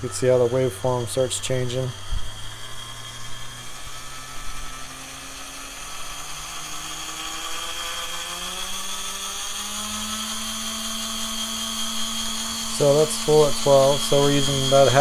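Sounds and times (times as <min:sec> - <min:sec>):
motor whirring hum rising: 0:00.0 - 0:15.0
steady high whine: 0:00.0 - 0:15.0.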